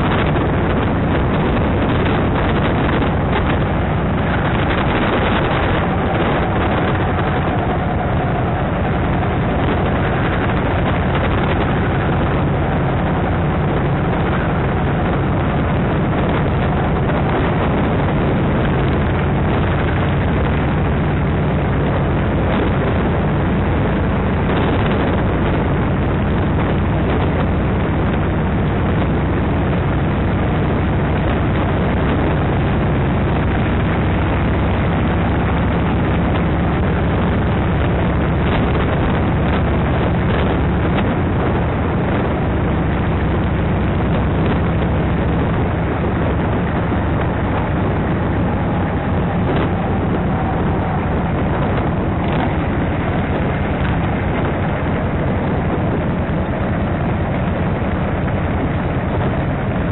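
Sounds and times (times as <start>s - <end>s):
motorcycle engine droning: 0.0s - 59.9s
wind rush on microphone: 0.0s - 59.9s.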